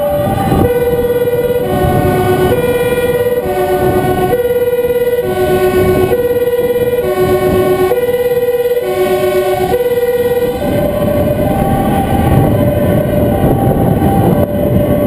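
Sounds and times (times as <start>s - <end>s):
fire engine rumble: 0.0s - 15.0s
two-tone emergency siren: 0.0s - 15.0s.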